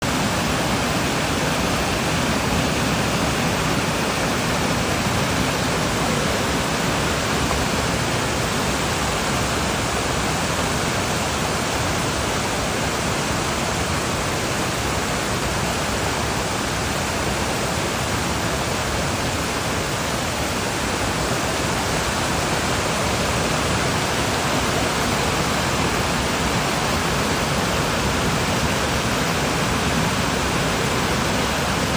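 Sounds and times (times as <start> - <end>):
mountain stream rushing: 0.0 - 31.9.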